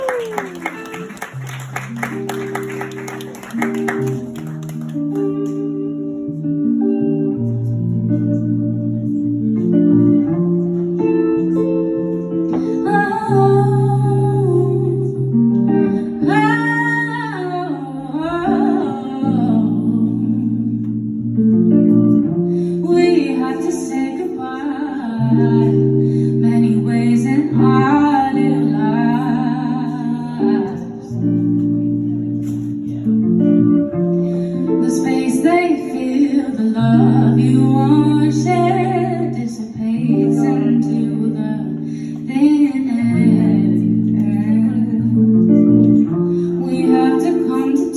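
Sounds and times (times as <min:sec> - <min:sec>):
guitar chords: 0:00.0 - 0:47.9
woman singing slow song: 0:00.0 - 0:47.9.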